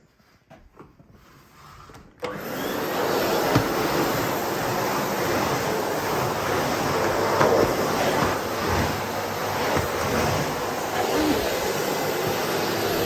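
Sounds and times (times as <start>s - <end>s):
vacuum cleaner motor running: 2.2s - 13.0s.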